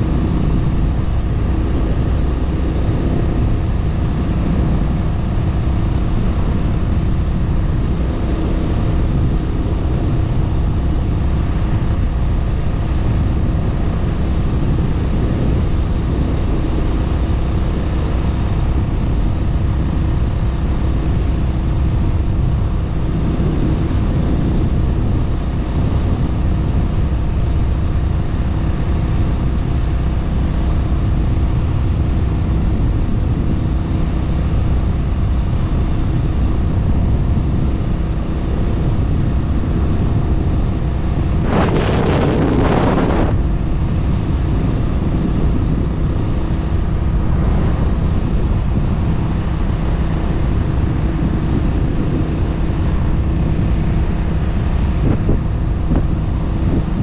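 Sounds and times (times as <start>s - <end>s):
wind rush on microphone: 0.0s - 57.0s.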